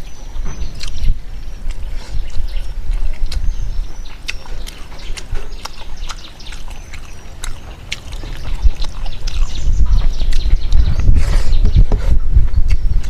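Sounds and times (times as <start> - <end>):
person chewing and lip smacking: 0.0 - 13.0.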